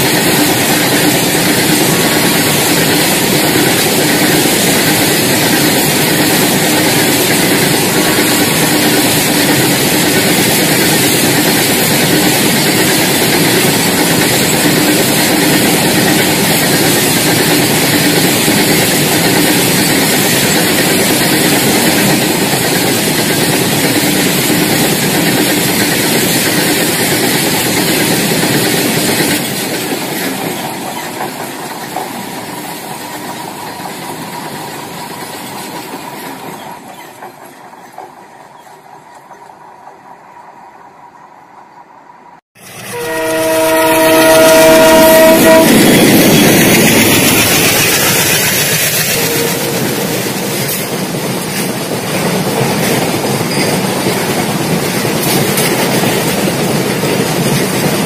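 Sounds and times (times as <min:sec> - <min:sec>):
wheels clattering on rails: 0:00.0 - 0:40.2, 0:42.7 - 0:58.0
freight train rumbling past: 0:00.0 - 0:58.0.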